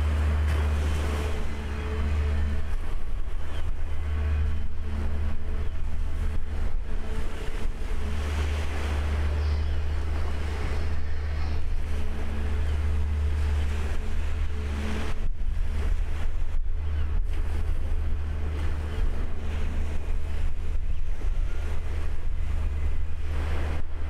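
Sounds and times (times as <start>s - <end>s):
faint constant hum: 0.0s - 24.0s
low machinery rumble: 0.0s - 24.0s
water rushing and splashing: 0.0s - 24.0s
wind buffeting microphone: 0.0s - 24.0s.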